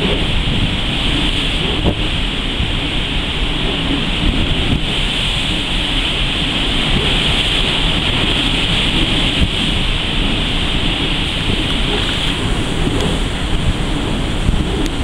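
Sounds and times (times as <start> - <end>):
open sea rushing: 0.0 - 15.0
wind on microphone: 0.0 - 15.0.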